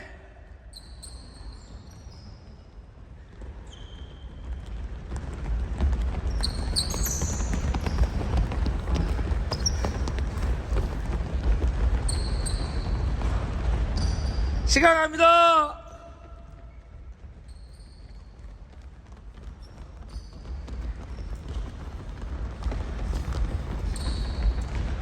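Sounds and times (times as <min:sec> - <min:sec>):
sneakers squeaking: 0:00.0 - 0:14.7, 0:15.8 - 0:25.0
basketballs bouncing on gym floor: 0:00.7 - 0:14.9, 0:15.9 - 0:25.0.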